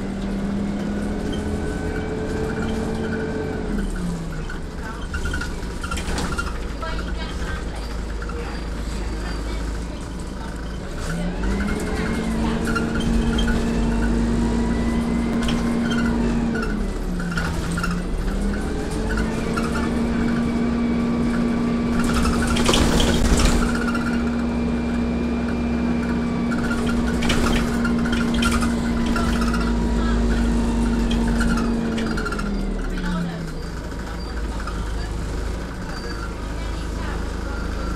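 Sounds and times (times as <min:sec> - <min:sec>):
bus drivetrain whine: 0:00.0 - 0:37.9
low road rumble: 0:00.0 - 0:37.9.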